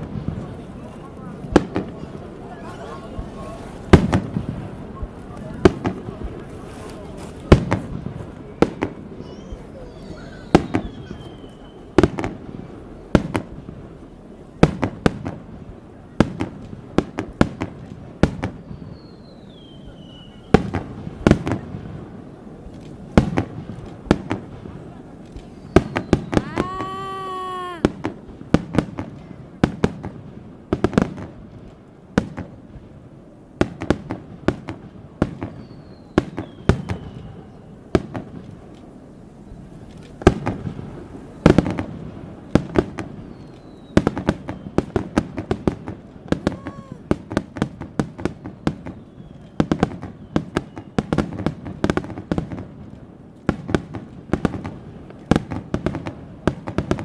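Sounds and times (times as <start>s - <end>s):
falling firework whistles: 0.0s - 57.0s
fireworks bangs and crackles: 0.0s - 57.0s.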